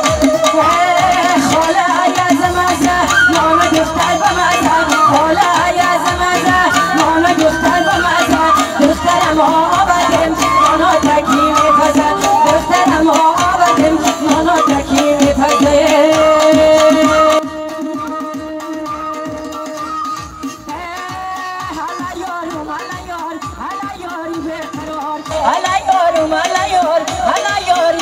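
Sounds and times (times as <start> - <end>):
frame drum beat: 0.0 - 28.0
keyboard and melody instruments: 0.0 - 28.0
woman singing into a microphone: 0.0 - 28.0.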